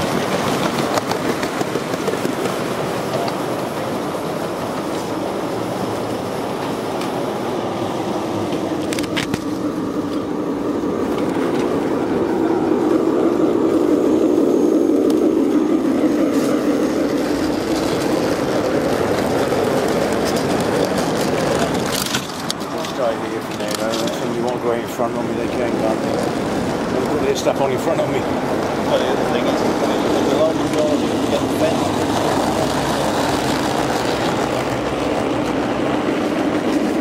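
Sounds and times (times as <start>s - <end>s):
model railway wagons rolling on track: 0.0s - 37.0s.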